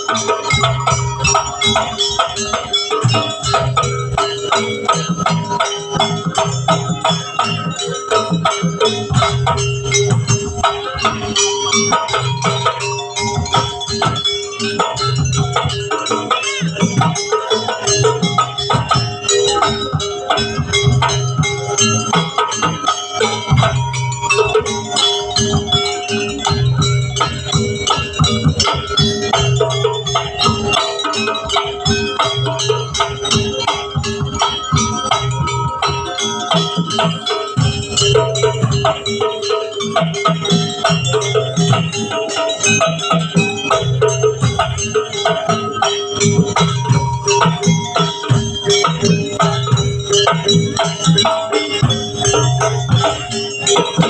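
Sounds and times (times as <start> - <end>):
drumming: 0.0 - 54.0
gamelan ensemble playing: 0.0 - 54.0
metallic gong and bell percussion: 0.0 - 54.0.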